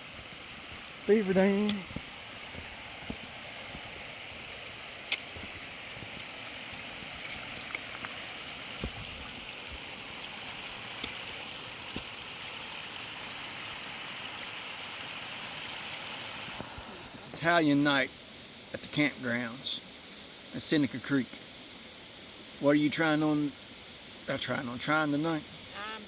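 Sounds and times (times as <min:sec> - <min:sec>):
creek water over rocks: 0:00.0 - 0:26.0.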